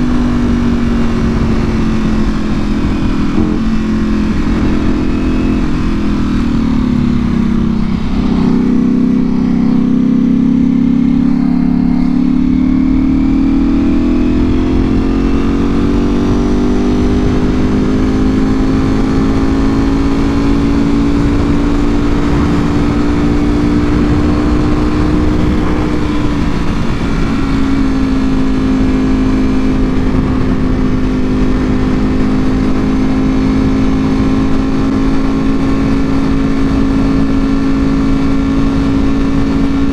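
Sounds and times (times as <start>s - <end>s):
motorcycle engine running: 0.0s - 39.9s
rush of wind noise: 0.0s - 39.9s.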